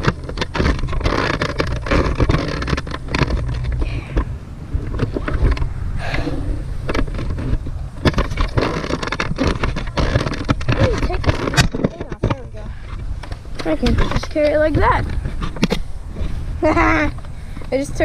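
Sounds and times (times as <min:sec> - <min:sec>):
handling noise on microphone: 0:00.0 - 0:18.0
irregular knocks and thumps: 0:00.0 - 0:18.0
wind on microphone: 0:00.0 - 0:18.0.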